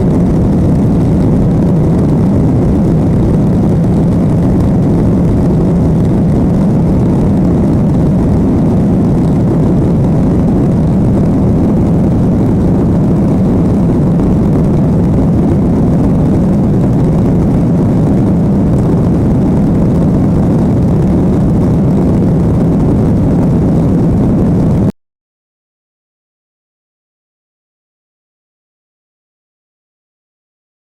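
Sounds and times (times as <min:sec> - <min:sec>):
airliner cabin engine rumble: 0:00.0 - 0:24.9.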